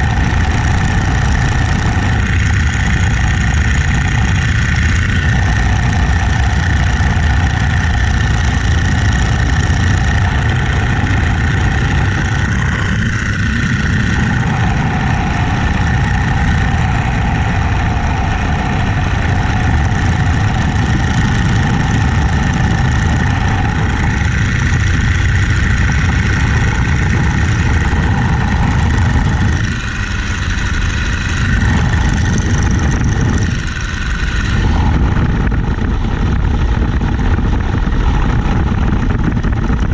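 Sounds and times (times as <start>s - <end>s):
biplane engine running: 0.0s - 39.9s
propeller noise: 0.0s - 39.9s
wind noise: 0.0s - 39.9s.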